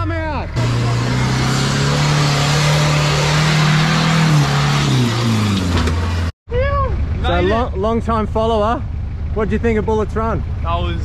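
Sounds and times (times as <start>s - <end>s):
off-road vehicle engine revving: 0.4s - 6.3s, 6.9s - 11.0s.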